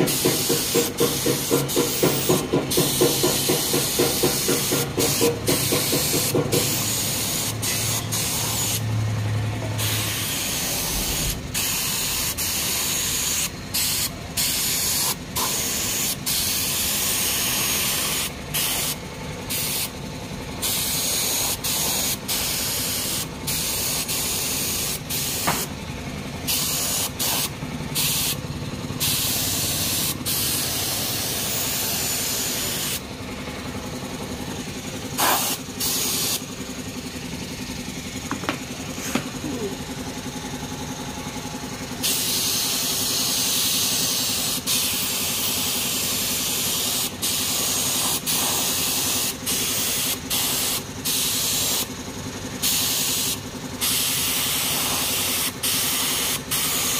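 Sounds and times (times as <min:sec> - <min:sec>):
paint spray gun hissing: 0:00.0 - 0:08.9, 0:09.8 - 0:20.0, 0:20.6 - 0:25.7, 0:26.4 - 0:28.4, 0:29.0 - 0:33.0, 0:34.5 - 0:36.5, 0:42.0 - 0:56.9.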